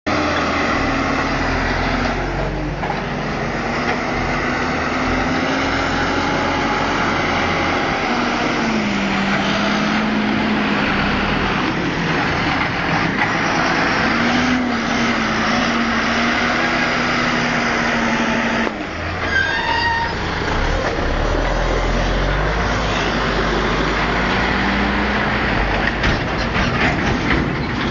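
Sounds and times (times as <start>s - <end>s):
tractor diesel engine working hard: 0.1s - 27.9s.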